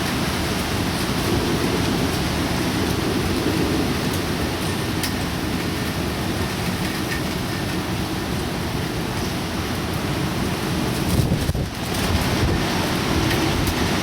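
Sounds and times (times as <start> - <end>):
heavy rain and wind: 0.0 - 14.0.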